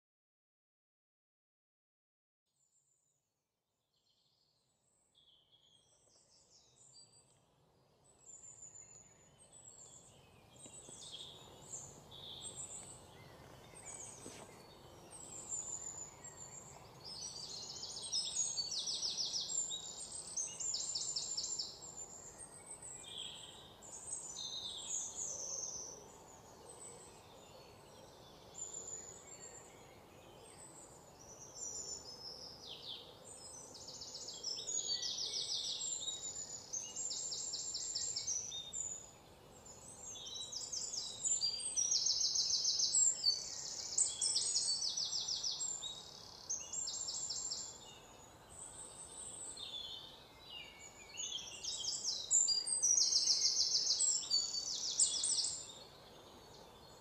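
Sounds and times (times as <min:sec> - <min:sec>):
steady background hiss: 0:06.3 - 0:57.0
birds chirping: 0:08.0 - 0:57.0.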